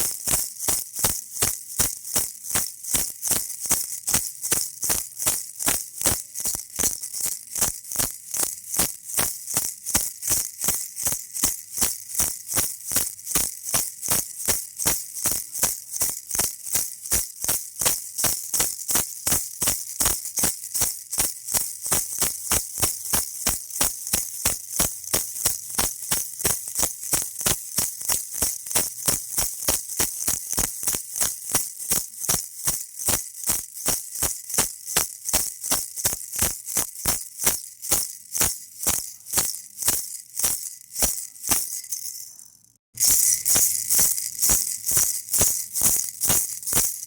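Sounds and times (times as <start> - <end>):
baby rattle shaken: 0.0 - 47.0.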